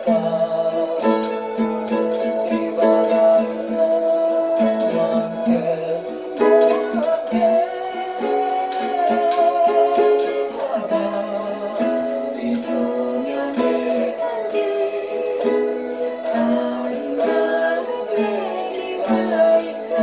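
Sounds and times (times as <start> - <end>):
sustained melody line: 0.0 - 20.0
ukulele strumming chords: 0.0 - 20.0.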